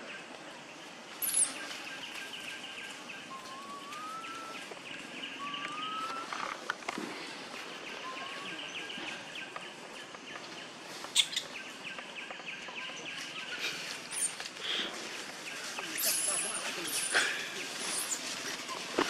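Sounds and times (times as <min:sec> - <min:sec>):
bird chirps: 0:01.1 - 0:06.6, 0:07.5 - 0:19.0.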